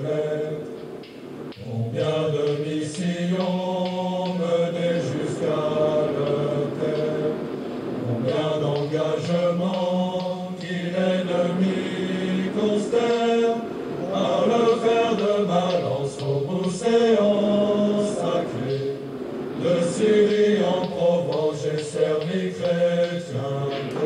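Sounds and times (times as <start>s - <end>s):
voices chanting held notes: 0.0s - 24.0s.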